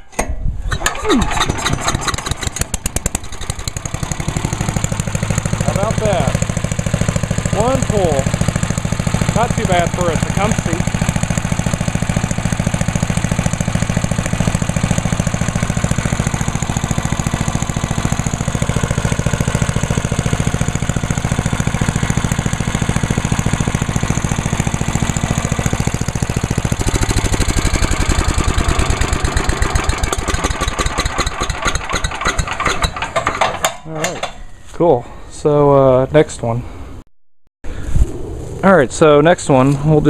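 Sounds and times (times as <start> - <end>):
single-cylinder engine running: 0.7 - 34.2.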